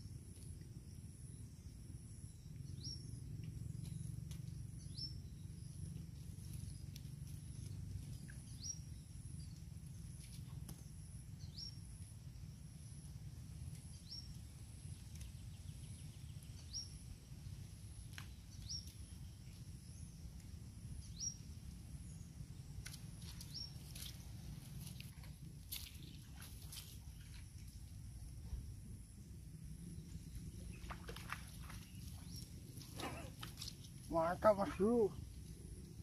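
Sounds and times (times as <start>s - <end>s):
low outdoor rumble: 0.1s - 36.0s.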